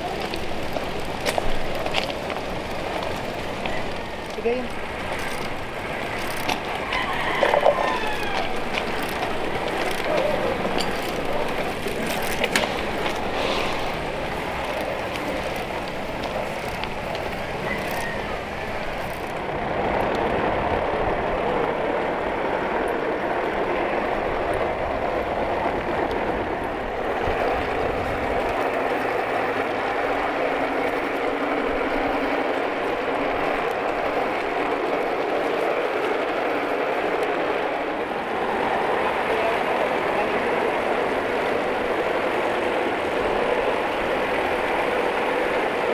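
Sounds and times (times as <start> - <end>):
trolley wheels rolling on rails: 0.0 - 45.9.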